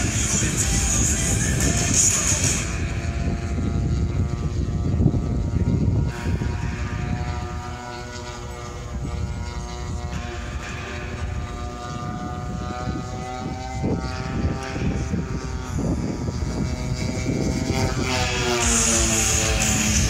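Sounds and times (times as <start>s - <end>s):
model airplane motor buzzing: 0.0s - 20.0s.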